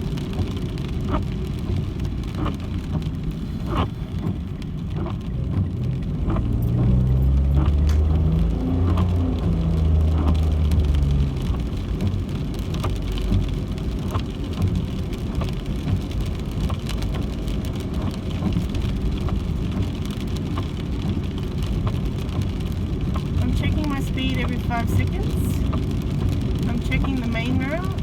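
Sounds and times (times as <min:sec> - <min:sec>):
raindrops hitting car: 0:00.0 - 0:28.0
road and engine rumble: 0:00.0 - 0:28.0.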